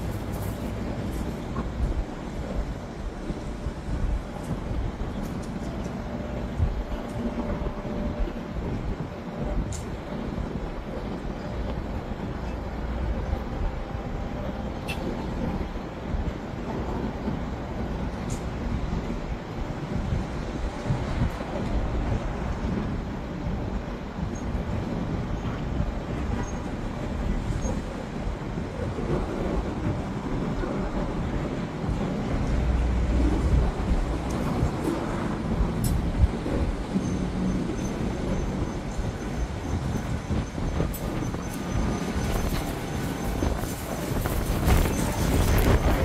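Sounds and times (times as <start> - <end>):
wind blowing against microphone: 0.0 - 46.0.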